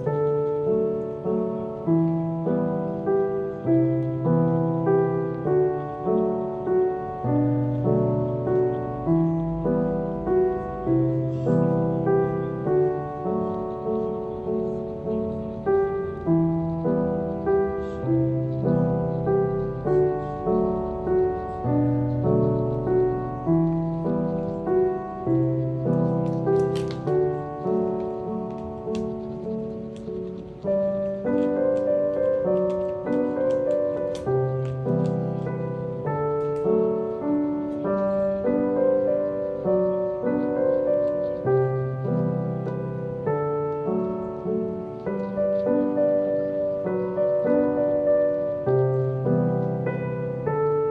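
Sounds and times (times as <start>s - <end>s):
gentle solo piano music: 0.0s - 50.9s.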